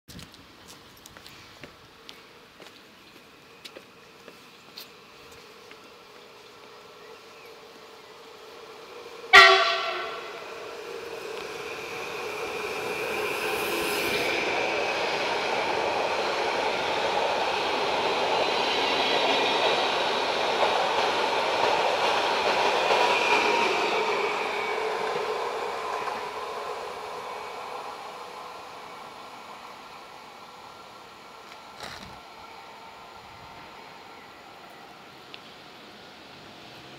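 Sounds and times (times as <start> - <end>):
train wheels rumbling on rail: 0.2 - 36.9.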